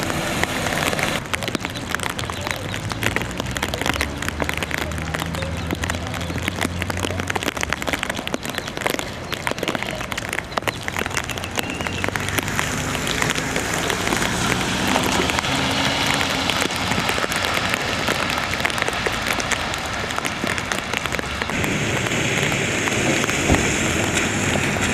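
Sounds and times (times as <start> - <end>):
heavy rain splattering: 0.0 - 24.9.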